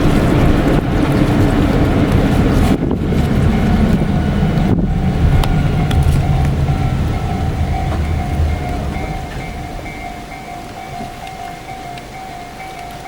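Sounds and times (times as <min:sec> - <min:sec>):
vehicle passing low rumble: 0:00.0 - 0:12.0
sharp ticks: 0:00.0 - 0:13.0.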